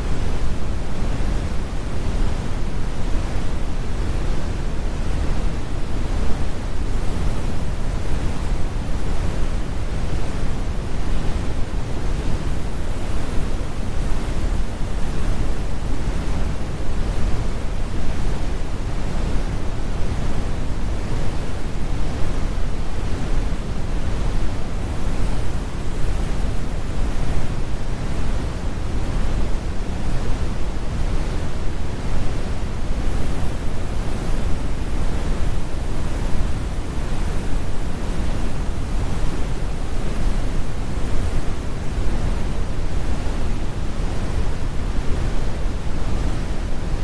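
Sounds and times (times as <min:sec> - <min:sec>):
brown noise: 0:00.0 - 0:47.0.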